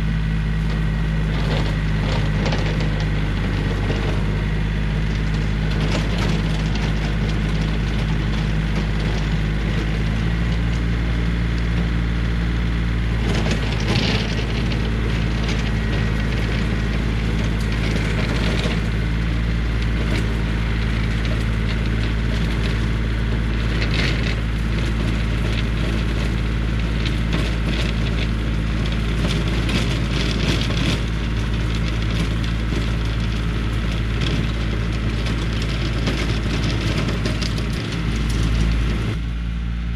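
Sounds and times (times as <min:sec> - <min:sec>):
mower chopping woody brush: 0:00.0 - 0:39.4
tractor diesel engine running: 0:00.0 - 0:39.9.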